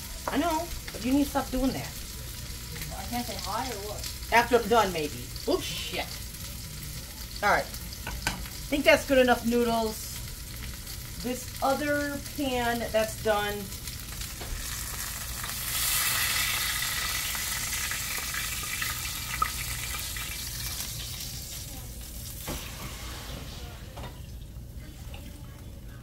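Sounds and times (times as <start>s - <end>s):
vegetables sizzling in skillet: 0.0s - 26.0s.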